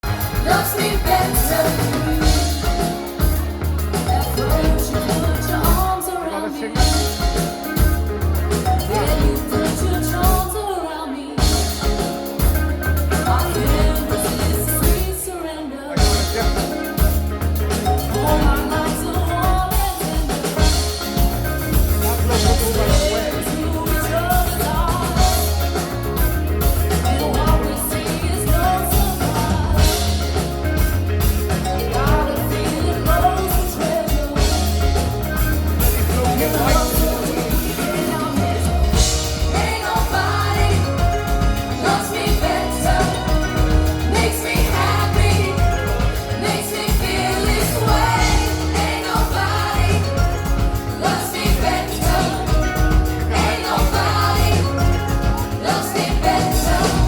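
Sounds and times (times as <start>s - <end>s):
lead vocalist singing: 0.0s - 57.0s
live pop-rock band: 0.0s - 57.0s.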